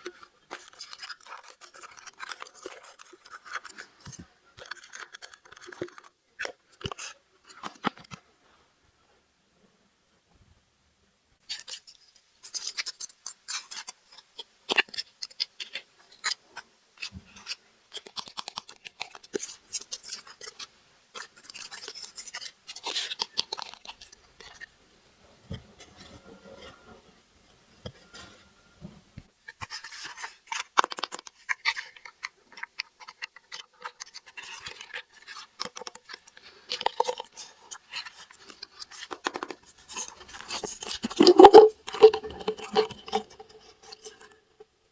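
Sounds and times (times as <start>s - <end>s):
plastic toys and packaging handled: 0.0s - 8.2s, 11.5s - 16.4s, 17.0s - 24.7s, 27.8s - 44.8s.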